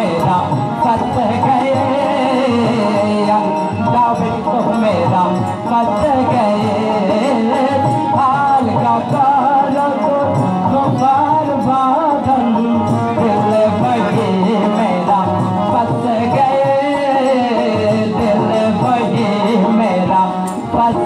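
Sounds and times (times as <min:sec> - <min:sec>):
boy singing into a microphone: 0:00.0 - 0:21.0
tabla: 0:00.0 - 0:21.0.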